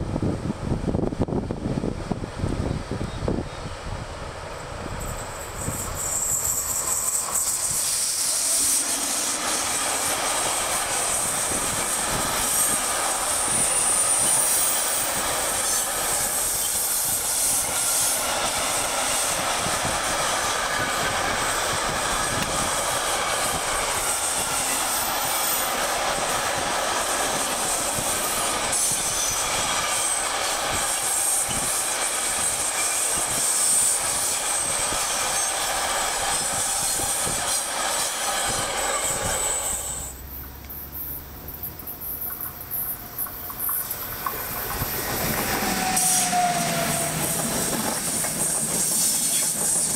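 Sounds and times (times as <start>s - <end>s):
freight train wagons rumbling: 0.0s - 49.9s
high thin wheel squeal: 4.8s - 49.9s.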